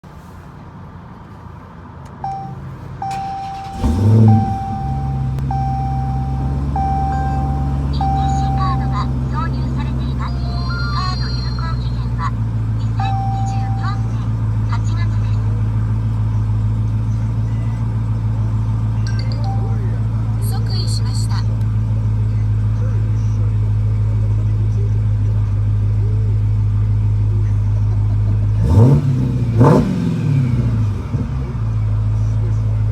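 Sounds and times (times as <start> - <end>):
car engine starting and idling: 1.2 - 32.9.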